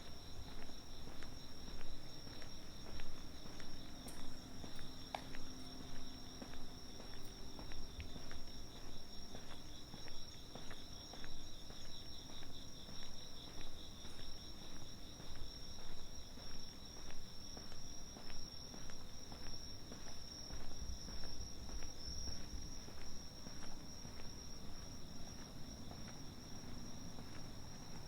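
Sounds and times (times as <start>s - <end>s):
footsteps on pavement: 0.0s - 28.0s.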